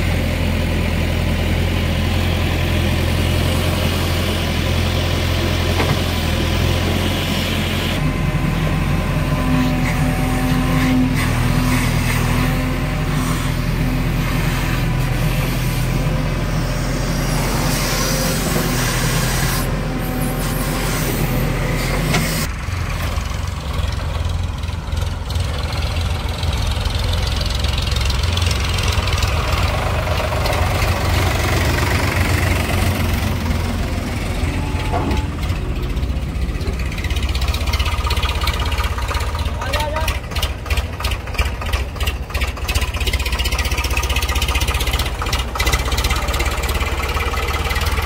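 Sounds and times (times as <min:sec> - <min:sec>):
diesel engine running: 0:00.0 - 0:48.0
tractor engine: 0:00.0 - 0:48.0.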